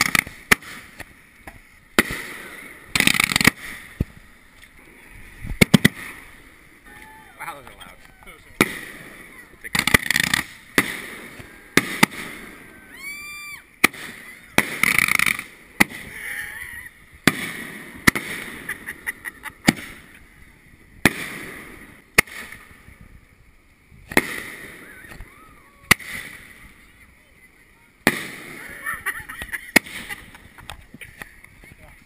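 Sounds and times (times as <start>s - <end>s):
fireworks bangs: 0.0s - 4.3s, 5.4s - 23.2s, 23.9s - 27.1s, 28.0s - 32.0s.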